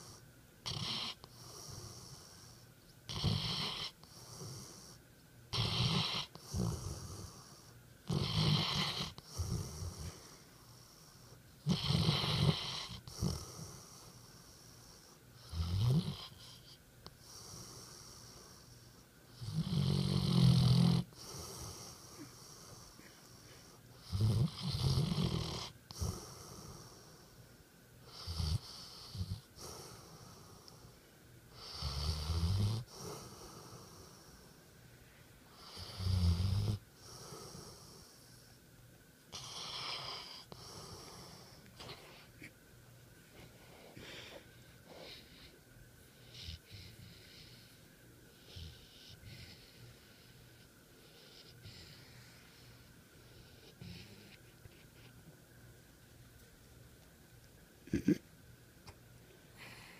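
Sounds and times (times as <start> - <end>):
dog snoring: 0.0 - 27.4, 28.0 - 34.6, 35.5 - 38.5, 39.3 - 42.3, 44.0 - 54.4.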